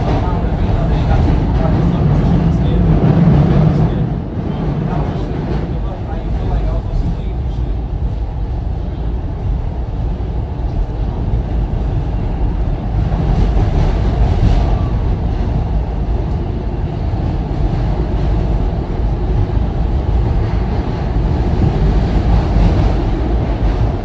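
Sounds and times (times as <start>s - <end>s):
rail car low rumble: 0.0s - 24.0s.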